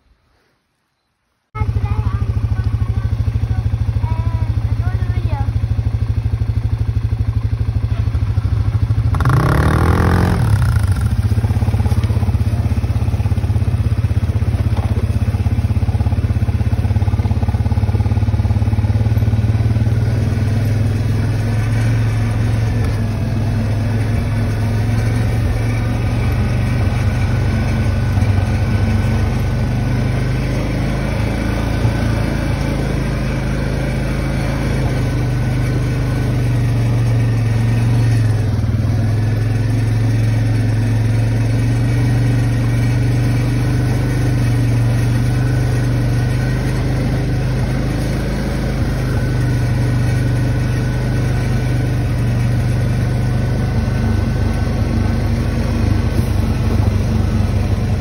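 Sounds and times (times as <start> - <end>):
atv engine running: 1.6 - 58.0.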